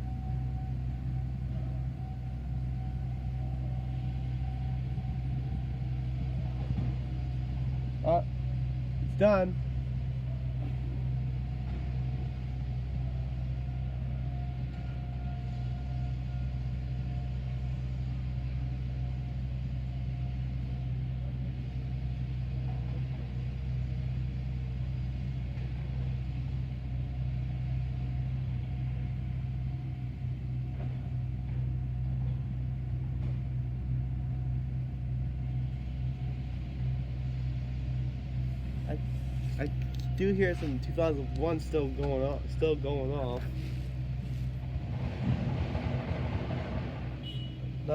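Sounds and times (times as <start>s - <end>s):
distant warning sirens: 0.0s - 47.9s
vehicle engine idling: 0.0s - 47.9s.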